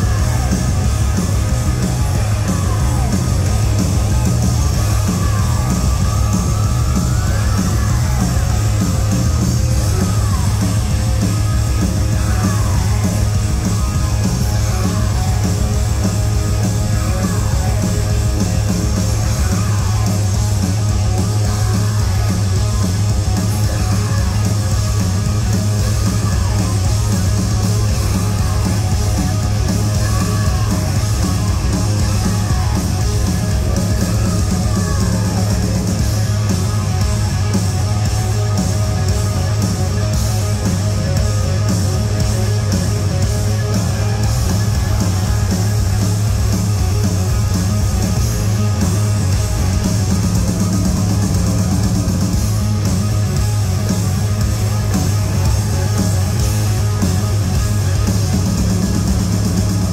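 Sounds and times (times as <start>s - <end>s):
booming bass line: 0.0s - 59.9s
distorted guitars: 0.0s - 59.9s
live rock band playing: 0.0s - 59.9s.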